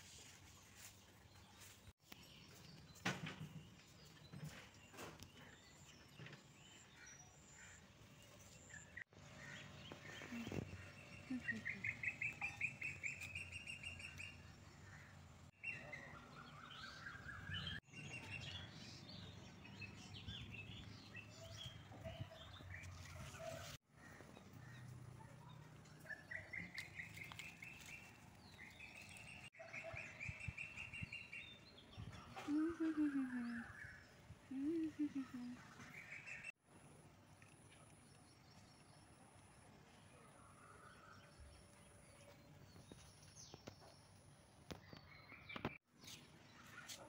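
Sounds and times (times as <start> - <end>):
small birds singing: 0.2 - 36.6, 37.3 - 47.0.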